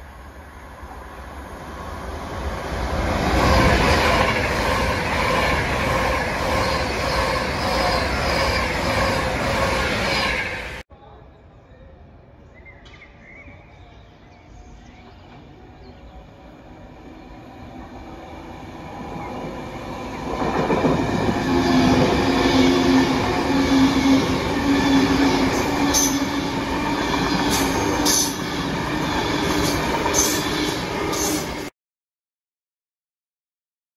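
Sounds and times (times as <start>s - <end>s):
train passing at speed: 0.0s - 12.6s, 13.5s - 31.7s.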